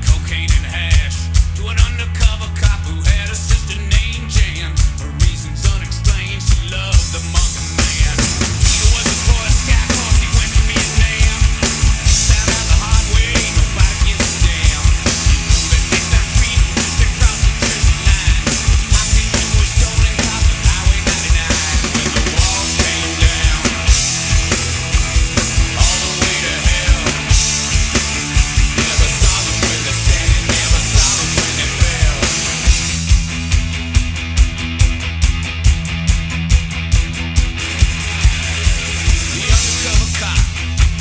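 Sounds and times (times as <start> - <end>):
live drums and cymbals: 0.0 - 41.0
punk rock song: 0.0 - 41.0.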